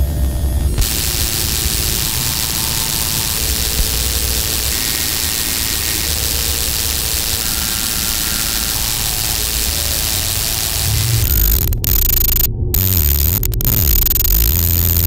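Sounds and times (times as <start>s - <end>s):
noisy drone with deep rumble: 0.0s - 15.0s.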